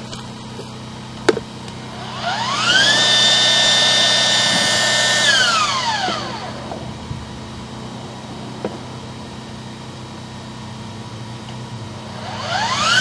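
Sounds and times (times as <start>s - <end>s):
electric motor whining: 0.0s - 13.0s
steady low hum: 0.0s - 13.0s.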